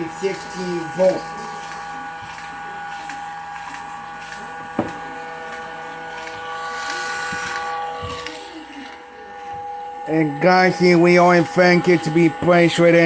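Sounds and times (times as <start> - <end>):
drill motor whining: 0.0 - 13.0.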